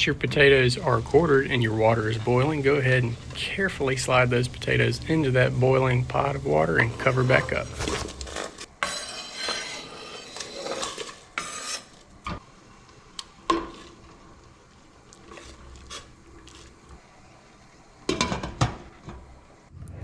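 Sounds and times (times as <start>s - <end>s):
potatoes sliding into pot: 0.0s - 17.4s.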